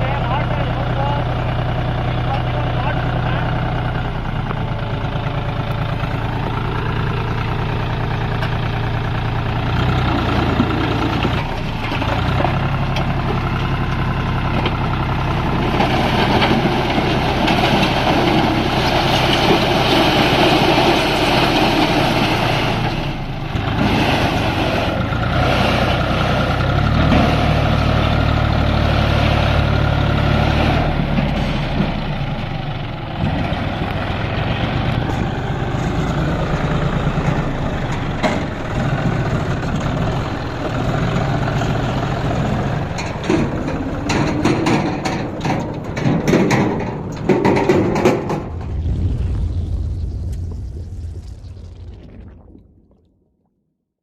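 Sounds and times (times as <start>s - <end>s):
heavy diesel engine running: 0.0s - 50.7s.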